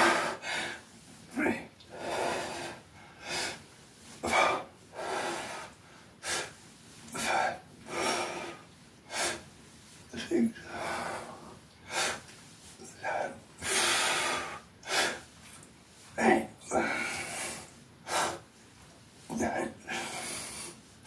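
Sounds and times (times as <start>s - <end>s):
man breathing heavily: 0.0s - 3.6s, 4.2s - 9.5s, 10.5s - 12.3s, 12.9s - 15.4s, 16.2s - 18.5s, 19.2s - 20.9s.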